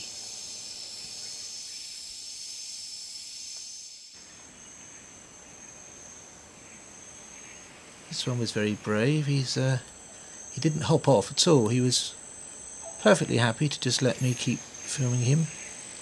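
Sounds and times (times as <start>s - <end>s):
faint hiss: 0.0s - 16.0s
insects droning: 0.0s - 16.0s.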